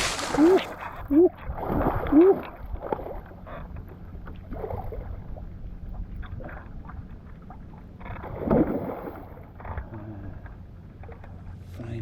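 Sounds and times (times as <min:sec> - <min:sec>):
water around a kayak: 0:00.0 - 0:12.0.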